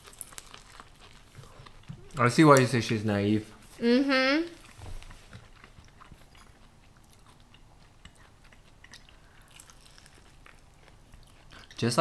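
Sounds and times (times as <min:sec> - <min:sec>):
chewing and biting corn: 0:00.0 - 0:02.6, 0:04.6 - 0:12.0.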